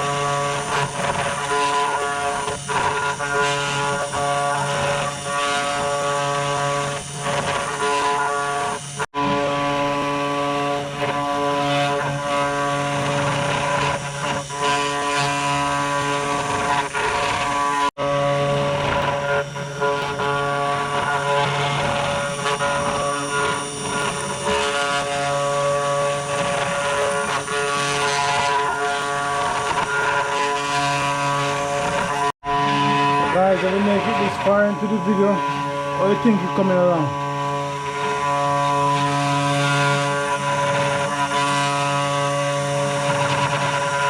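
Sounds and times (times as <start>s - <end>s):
router cutting wood: 0.0s - 44.0s
router motor whine: 0.0s - 44.0s.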